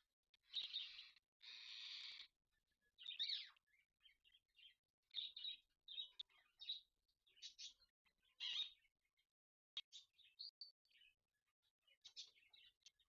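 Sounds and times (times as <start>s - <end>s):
parakeets chattering and chirping: 0.4s - 11.1s, 11.8s - 13.0s.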